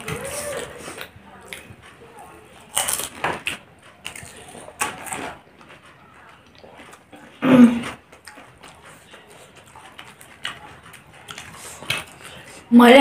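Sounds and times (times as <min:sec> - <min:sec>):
people chewing crunchy food: 0:00.0 - 0:13.0.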